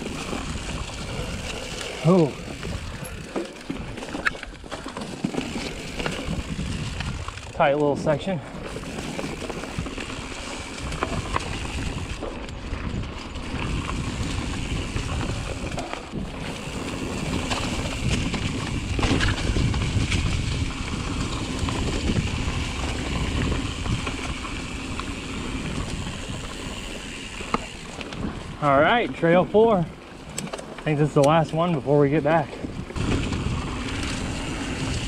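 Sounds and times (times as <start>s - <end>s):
wind on microphone: 0.0s - 4.4s, 5.8s - 7.6s, 8.6s - 28.8s, 32.6s - 35.0s
bike knocks and rattles: 0.0s - 28.9s
tyres rumbling on dirt trail: 0.0s - 35.0s.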